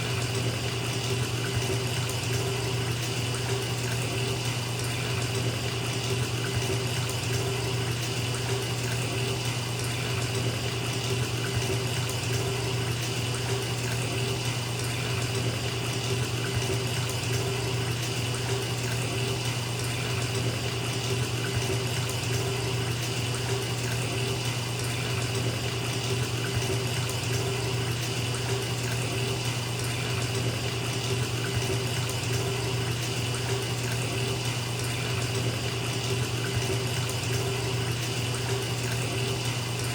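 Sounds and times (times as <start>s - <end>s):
tap water pouring into bathtub: 0.0s - 39.9s.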